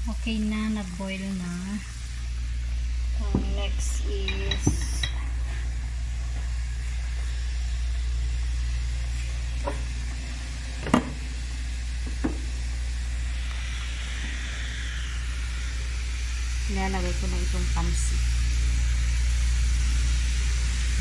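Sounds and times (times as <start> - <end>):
gas burner rumbling: 0.0 - 21.0.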